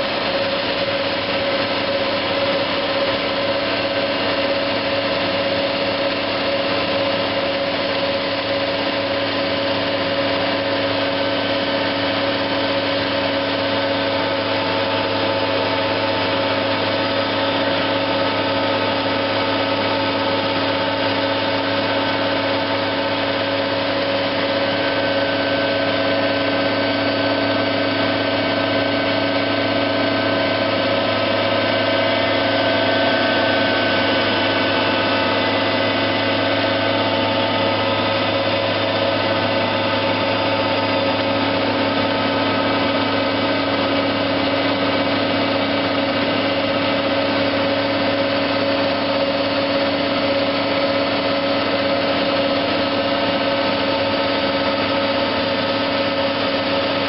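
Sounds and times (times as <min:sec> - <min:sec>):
steady whining tones: 0:00.0 - 0:57.0
tractor and grinder droning: 0:00.0 - 0:57.0.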